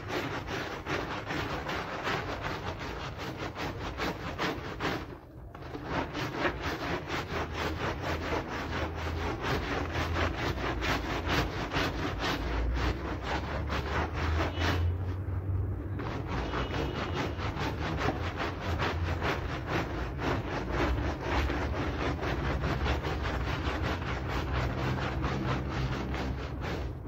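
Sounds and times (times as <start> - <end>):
brush scrubbing wet rug: 0.0 - 27.0.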